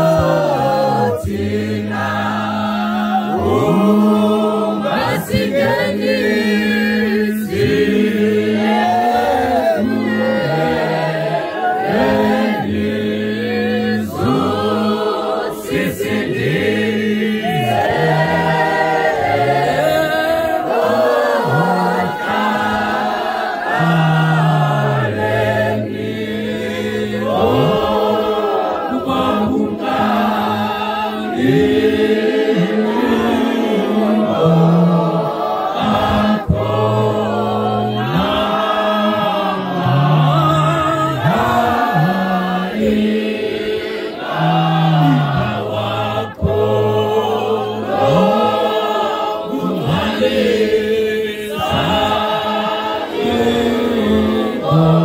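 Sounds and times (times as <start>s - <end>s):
men's choir singing a hymn: 0.0s - 55.0s.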